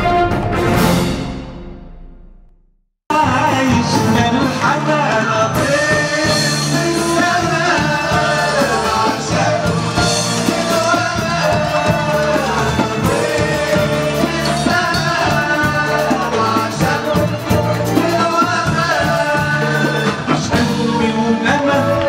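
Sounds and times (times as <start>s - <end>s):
band with frame drums: 0.0s - 2.0s, 3.1s - 22.0s
man singing: 3.1s - 22.0s.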